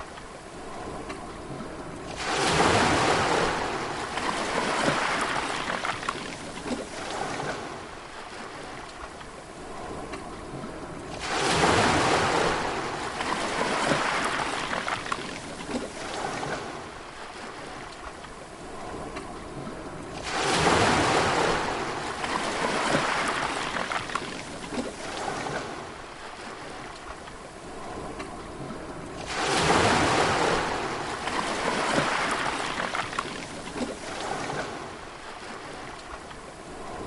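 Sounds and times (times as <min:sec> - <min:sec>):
sea waves crashing: 0:00.0 - 0:37.0.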